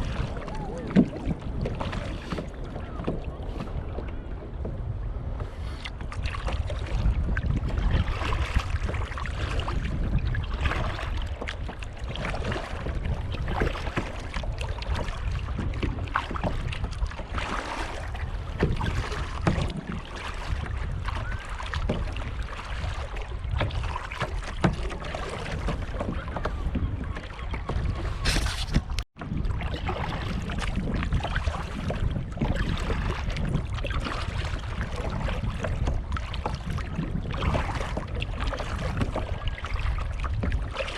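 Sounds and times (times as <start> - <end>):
kayak paddle strokes: 0.0 - 40.9
water splashing and lapping: 0.0 - 40.9
wind on microphone: 0.0 - 40.9.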